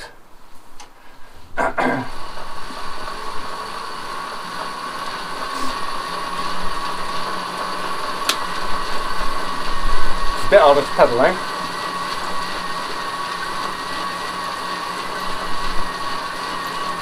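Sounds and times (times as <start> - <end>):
bike generator whirring and whining: 0.0 - 17.0.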